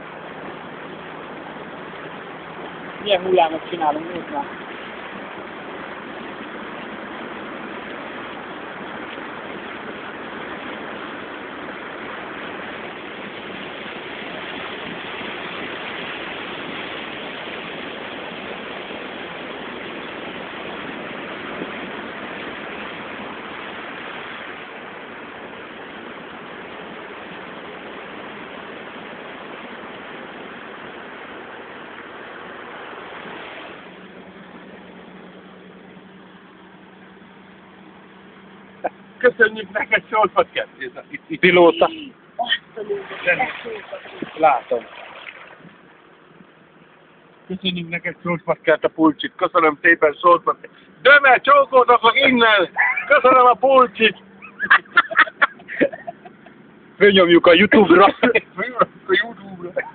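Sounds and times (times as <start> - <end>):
vehicle engine running: 0.0 - 59.9
water rushing and splashing: 0.0 - 59.9.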